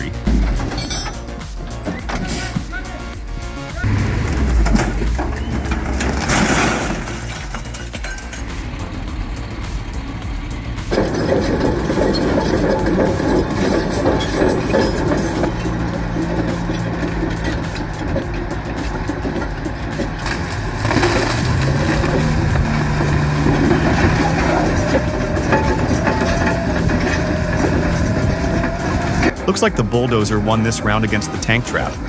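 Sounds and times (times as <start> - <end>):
bulldozer diesel engine under load: 3.8 - 31.6.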